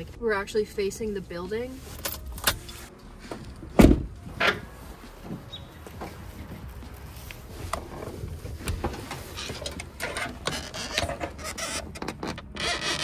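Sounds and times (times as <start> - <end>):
rustling and scuffling: 1.2 - 12.2.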